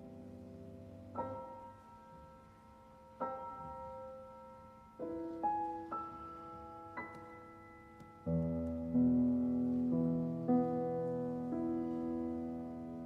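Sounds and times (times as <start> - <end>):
solo piano soft chords: 0.0 - 13.0.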